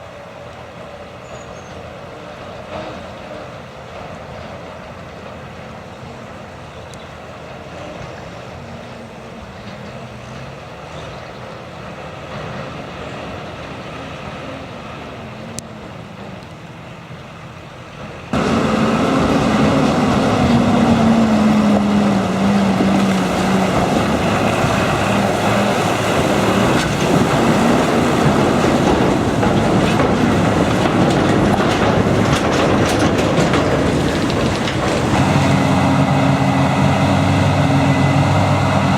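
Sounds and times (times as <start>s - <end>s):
tractor diesel engines: 0.0s - 38.9s.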